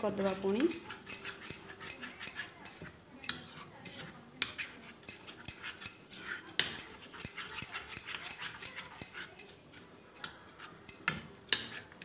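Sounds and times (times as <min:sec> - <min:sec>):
batter squelching in bowl: 0:00.0 - 0:12.0.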